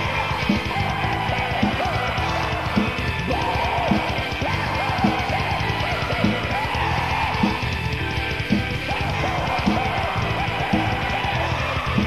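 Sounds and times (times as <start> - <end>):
distorted guitars: 0.0 - 12.0
fast drumming: 0.0 - 12.0.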